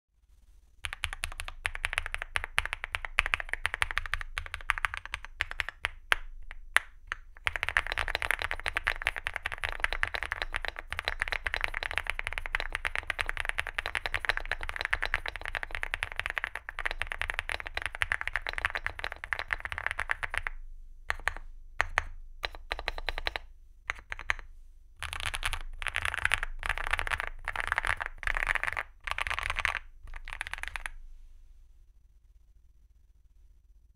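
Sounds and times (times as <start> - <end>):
mechanical keyboard typing: 0.8 - 6.3, 7.2 - 24.4, 25.0 - 30.9.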